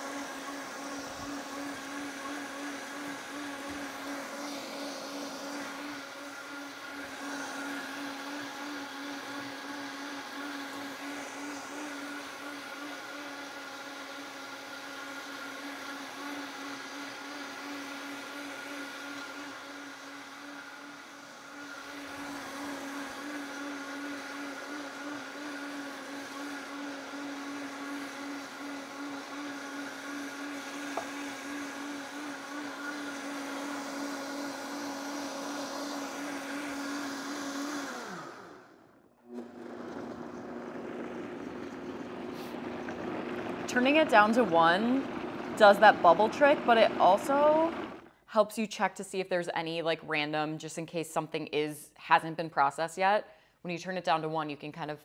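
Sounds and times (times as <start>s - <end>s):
blender motor running: 0.0s - 48.2s.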